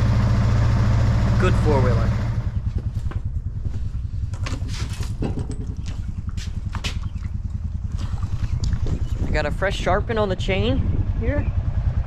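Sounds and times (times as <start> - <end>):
quad bike engine idling: 0.0 - 12.0.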